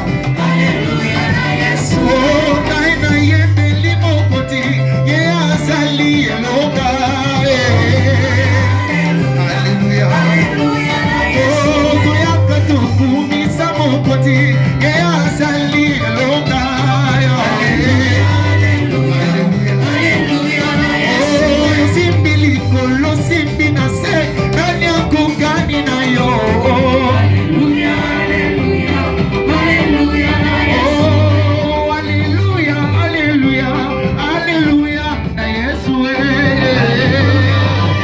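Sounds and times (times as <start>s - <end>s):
live band playing: 0.0s - 38.0s
people singing worship song: 0.0s - 38.0s.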